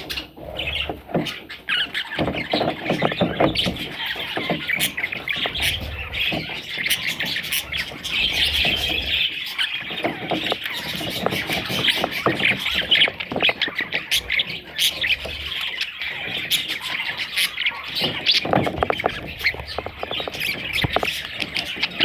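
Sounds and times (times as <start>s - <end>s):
bird chicks squawking: 0.0s - 22.0s.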